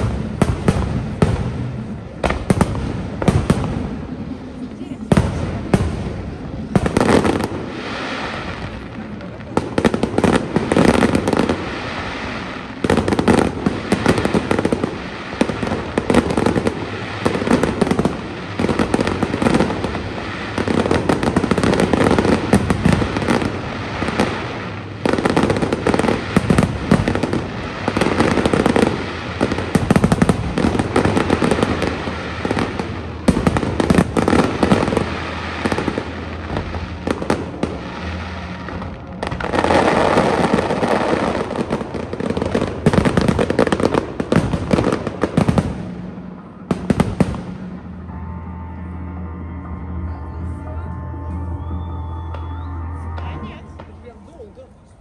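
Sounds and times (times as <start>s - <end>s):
fireworks bangs and crackle: 0.0s - 48.2s, 52.3s - 54.5s.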